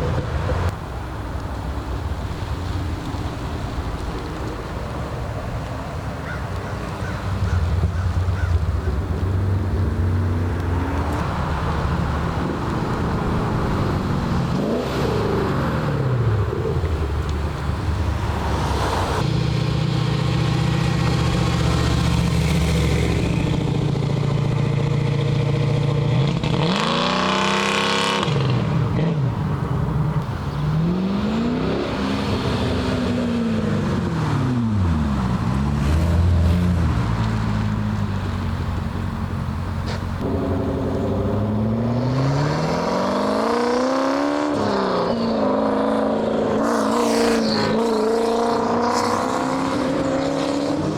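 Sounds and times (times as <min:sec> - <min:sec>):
cars driving past revving: 0:07.4 - 0:50.9.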